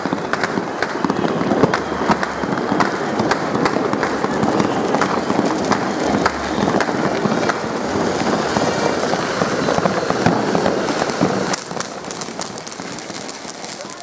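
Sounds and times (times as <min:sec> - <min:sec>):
firework pops: 0:00.0 - 0:14.0
fountain firework crackling hiss: 0:00.0 - 0:14.0.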